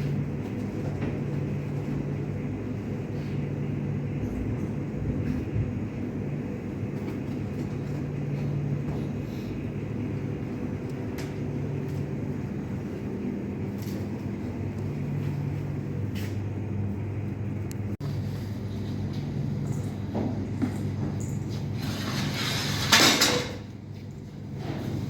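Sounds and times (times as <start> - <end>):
machine humming: 0.0 - 21.3.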